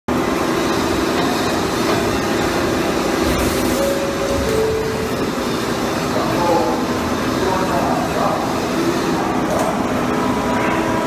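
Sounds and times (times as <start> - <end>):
pipe bevelling machine running: 0.1 - 11.0.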